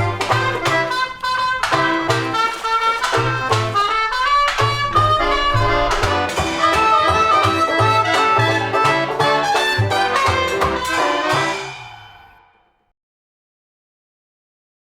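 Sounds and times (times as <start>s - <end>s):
lively instrumental music: 0.0s - 12.5s.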